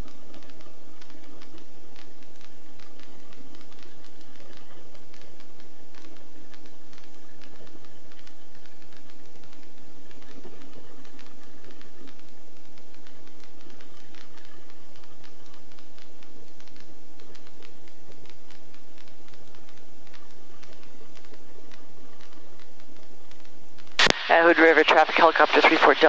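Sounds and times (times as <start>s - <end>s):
irregular clicks and crackles: 0.0s - 24.2s
helicopter engine and rotor drone: 0.0s - 26.0s.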